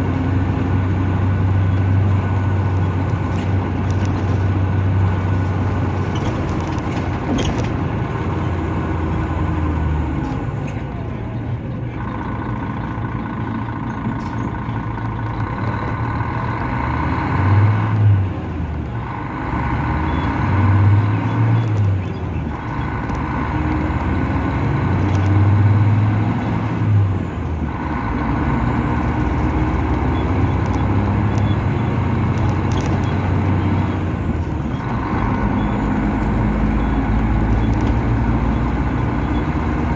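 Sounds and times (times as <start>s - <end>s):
coach diesel engine drone: 0.0s - 39.9s.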